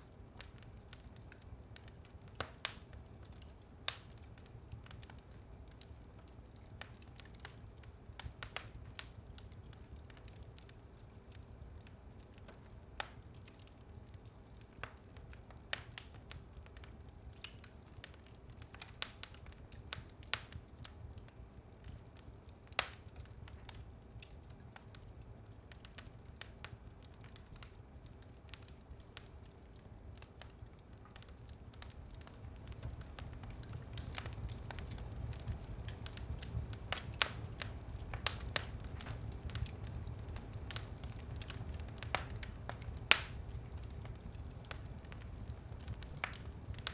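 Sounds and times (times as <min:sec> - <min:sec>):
low rumble of flame: 0:00.0 - 0:46.9
wood fire crackling and popping: 0:00.0 - 0:46.9.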